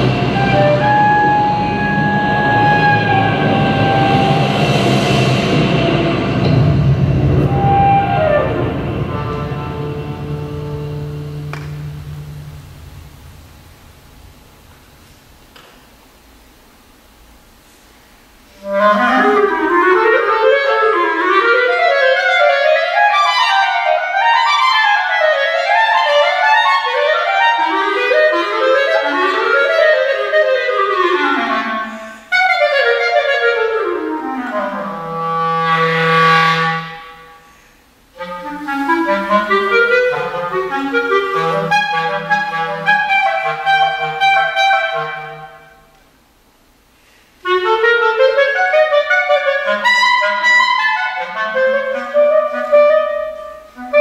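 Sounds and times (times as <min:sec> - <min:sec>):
clarinet playing: 0:00.0 - 0:05.2, 0:06.5 - 0:13.3, 0:18.5 - 0:46.0, 0:47.4 - 0:54.0.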